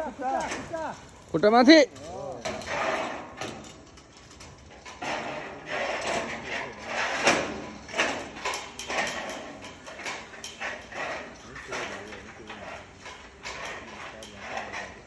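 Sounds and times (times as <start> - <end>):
roller coaster rattling and clattering: 0.0 - 15.0.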